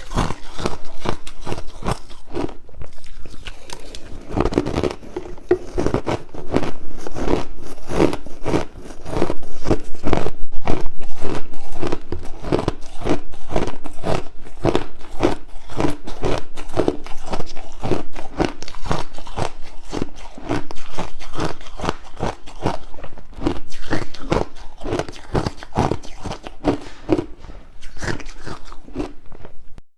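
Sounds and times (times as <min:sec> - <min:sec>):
crushed ice being chewed: 0:00.0 - 0:29.6.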